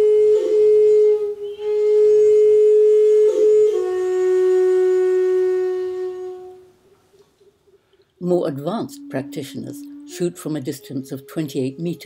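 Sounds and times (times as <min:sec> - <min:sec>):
flute holding long notes: 0:00.0 - 0:06.8, 0:08.2 - 0:12.0.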